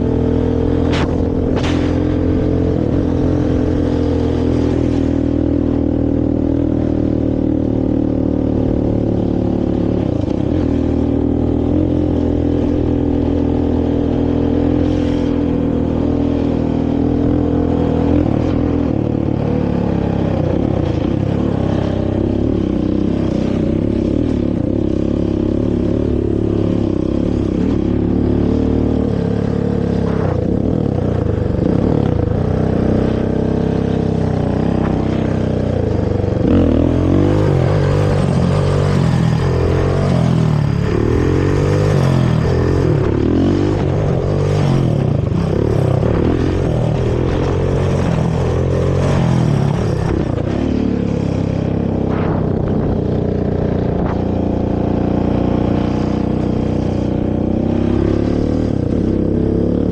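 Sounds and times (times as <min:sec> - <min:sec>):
quad engine revving: 0:00.0 - 0:05.0, 0:16.4 - 0:59.9.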